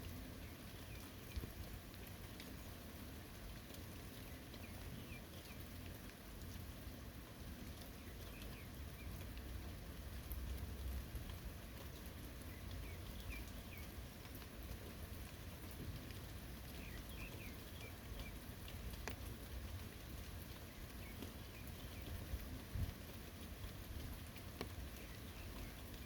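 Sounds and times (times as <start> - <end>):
fine drip ticks: 0.0 - 26.0
rain falling on forest: 0.0 - 26.0.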